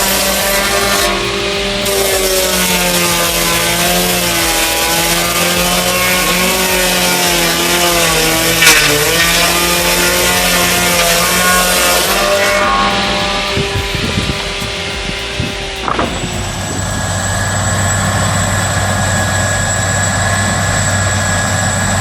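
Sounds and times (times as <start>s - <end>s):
large machine engine running: 0.0s - 22.0s.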